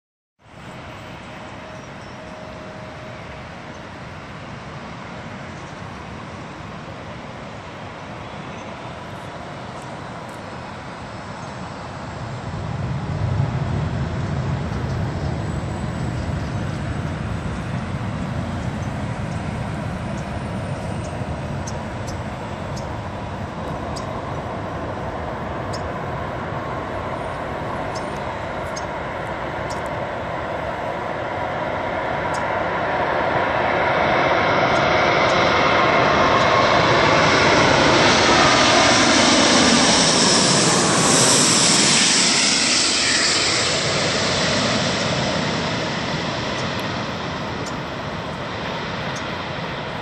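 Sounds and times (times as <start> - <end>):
jet airliner roar: 0.4 - 50.0.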